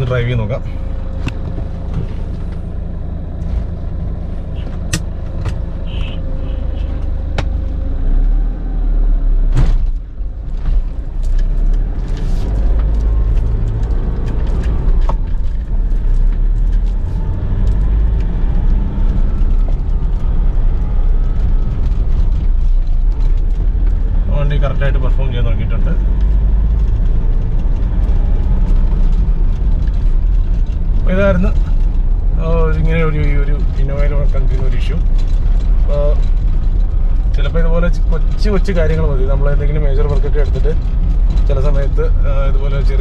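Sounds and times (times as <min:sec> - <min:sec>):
diesel engine and road rumble: 0:00.0 - 0:43.0.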